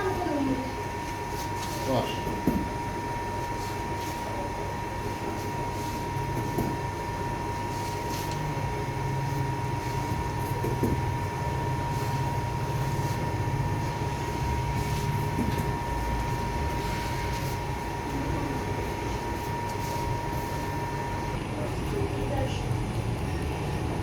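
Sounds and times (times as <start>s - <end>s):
machinery hum and rumble: 0.0s - 24.0s
thin constant whine: 0.0s - 24.0s.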